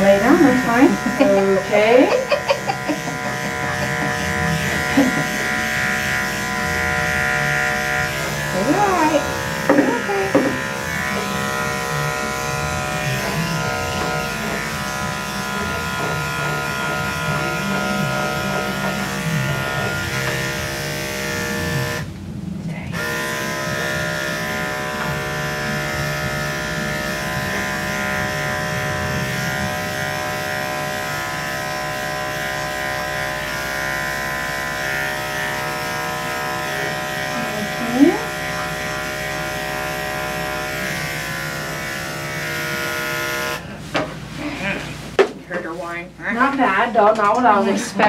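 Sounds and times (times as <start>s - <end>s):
electric pet clippers buzzing: 0.0s - 43.7s.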